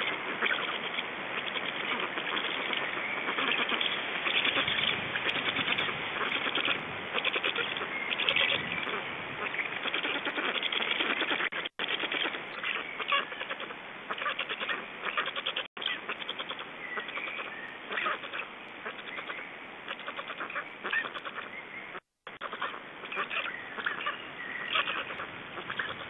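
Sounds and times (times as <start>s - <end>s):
stork chicks bleating chatter: 0.0s - 26.0s.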